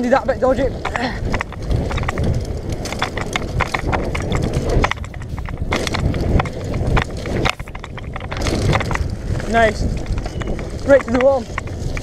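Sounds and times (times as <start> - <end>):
bike chain and frame rattling: 0.0 - 12.0
tyres rumbling on dirt: 0.0 - 12.0
wind: 0.0 - 12.0.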